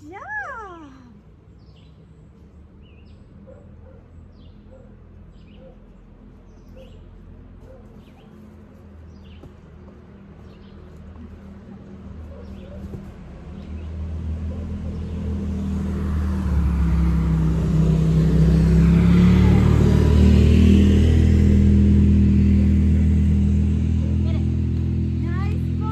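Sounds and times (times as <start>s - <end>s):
engine approaching: 0.6s - 25.9s.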